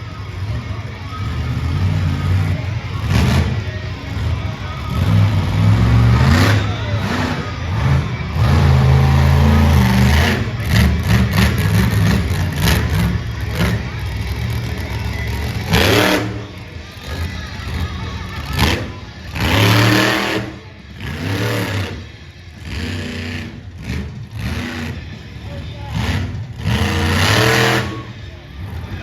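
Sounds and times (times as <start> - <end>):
truck engine revving hard: 0.0 - 29.0.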